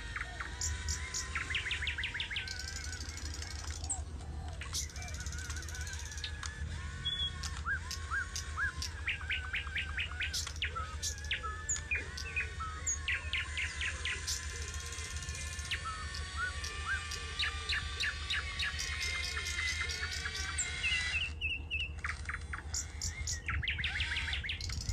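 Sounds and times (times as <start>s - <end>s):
birds chirping and whistling: 0.0s - 24.9s
steady low hum: 0.0s - 24.9s.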